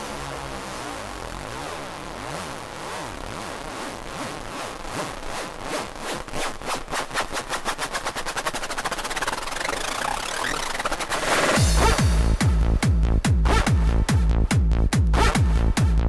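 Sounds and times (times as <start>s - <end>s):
swooping synth sweeps: 0.0s - 14.0s.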